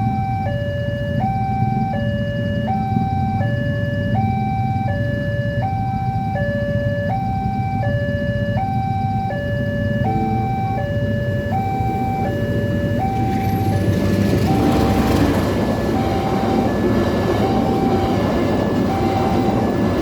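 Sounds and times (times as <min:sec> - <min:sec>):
two-tone level crossing alarm: 0:00.0 - 0:20.0.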